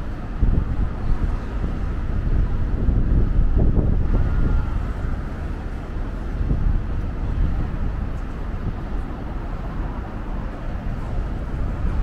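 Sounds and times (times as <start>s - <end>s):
city street traffic rumble: 0.0s - 12.0s
wind buffeting microphone: 0.0s - 12.0s.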